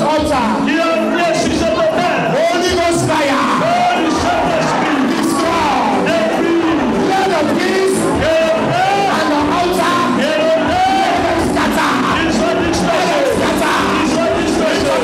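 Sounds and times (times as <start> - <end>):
congregation praying aloud: 0.0 - 15.0
music: 0.0 - 15.0.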